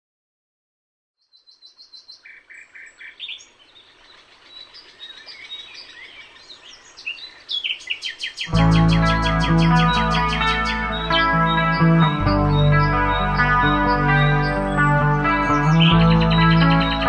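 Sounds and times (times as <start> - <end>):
songbirds singing and chirping: 1.2 - 17.0.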